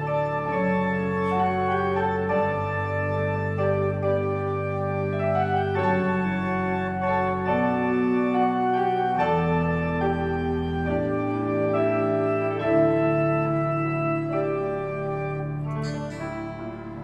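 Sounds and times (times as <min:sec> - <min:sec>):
organ playing sustained chords: 0:00.0 - 0:17.0
piano: 0:00.0 - 0:17.0.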